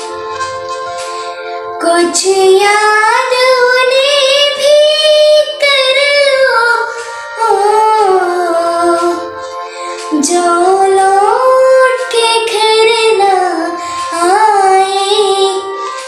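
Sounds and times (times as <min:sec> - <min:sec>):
girl singing: 0:01.8 - 0:09.3, 0:10.0 - 0:16.0.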